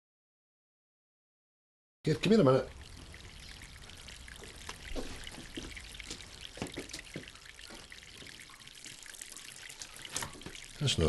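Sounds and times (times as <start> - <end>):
water drips splashing: 2.1 - 11.0
water trickling from pipe: 2.1 - 11.0.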